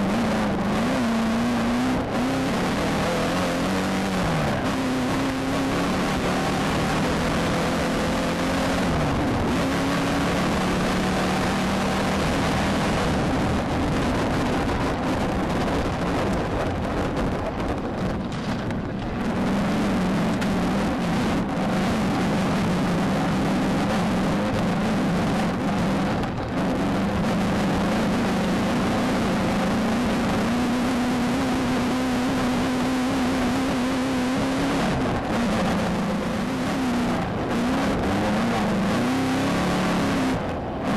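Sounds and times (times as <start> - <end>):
race car engine running: 0.0 - 40.9
road rumble: 0.0 - 40.9
wind noise: 0.0 - 40.9.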